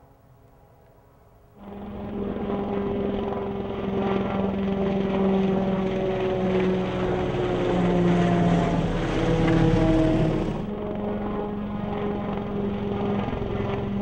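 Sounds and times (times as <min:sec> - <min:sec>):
helicopter flying low past: 0:00.0 - 0:14.0.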